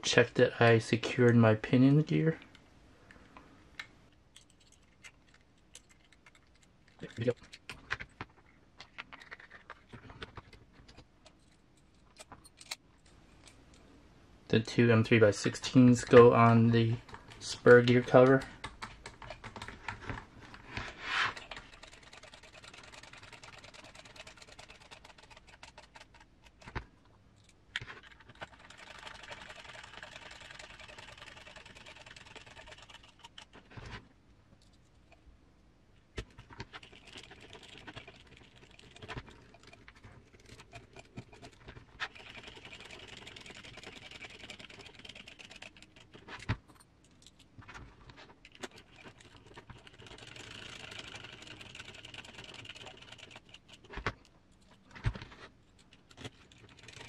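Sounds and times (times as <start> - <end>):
small parts and tools clicking: 3.8 - 13.9, 16.0 - 35.2, 36.2 - 57.0
fine fast clicking and scratching: 4.4 - 12.4, 15.4 - 35.2, 36.2 - 57.0.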